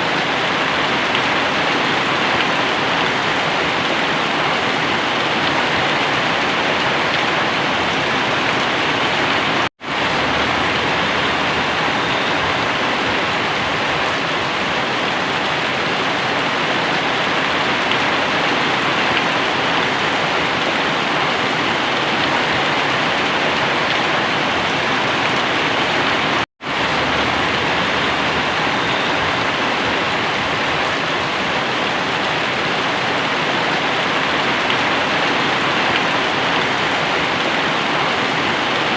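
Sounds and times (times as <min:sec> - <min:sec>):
very heavy rain pouring: 0:00.0 - 0:38.9.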